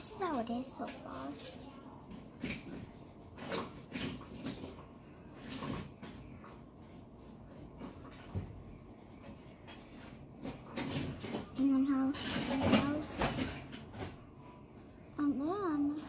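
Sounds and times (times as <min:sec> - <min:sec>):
pencil scratching on paper: 0:00.0 - 0:13.7.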